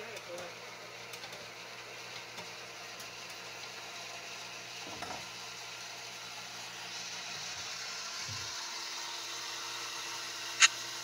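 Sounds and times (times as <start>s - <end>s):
water pump humming: 0.1s - 11.0s.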